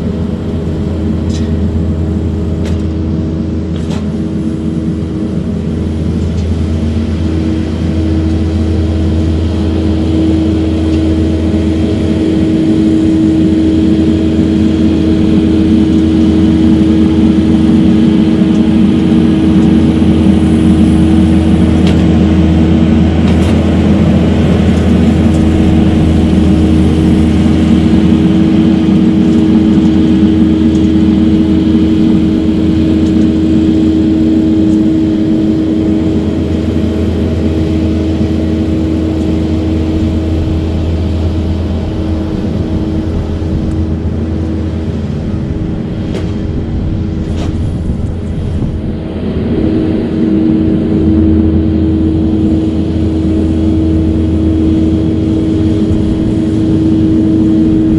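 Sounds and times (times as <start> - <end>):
diesel engine droning with whine: 0.0 - 57.9.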